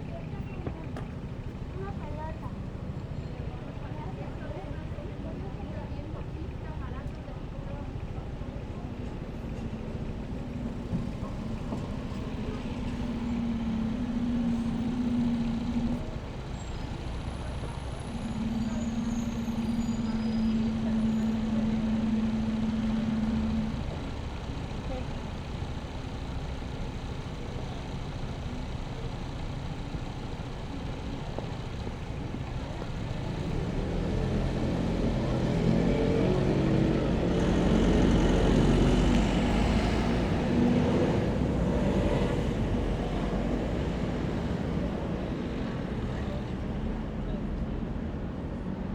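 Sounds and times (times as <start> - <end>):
vehicles passing: 9.1 - 48.9.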